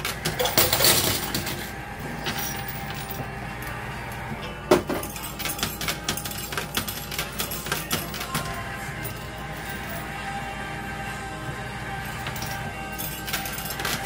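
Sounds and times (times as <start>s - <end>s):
coins clinking: 0.0s - 3.8s, 4.4s - 10.3s, 11.9s - 14.0s
background music: 0.0s - 14.0s.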